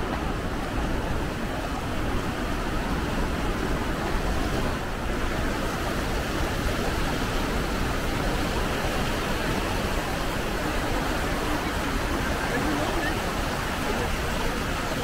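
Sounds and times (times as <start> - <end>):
river rushing through rapids: 0.0 - 15.0.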